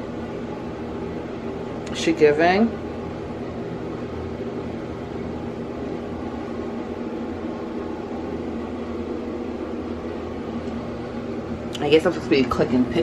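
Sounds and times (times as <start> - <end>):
ventilation fan humming: 0.0 - 13.0.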